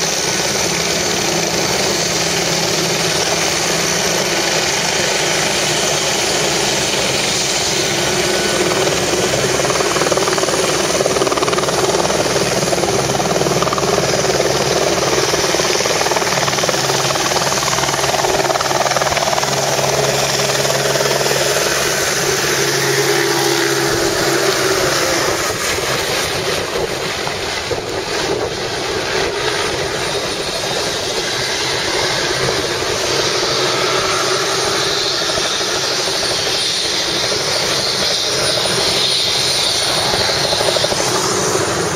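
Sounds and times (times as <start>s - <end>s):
helicopter rotor and engine noise: 0.0s - 41.9s.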